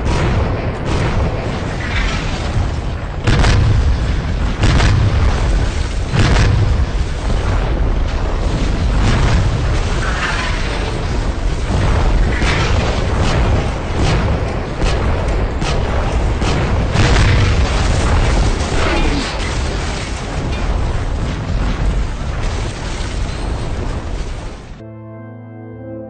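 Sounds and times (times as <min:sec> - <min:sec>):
continuous low rumble: 0:00.0 - 0:24.8
shells exploding: 0:00.0 - 0:24.8.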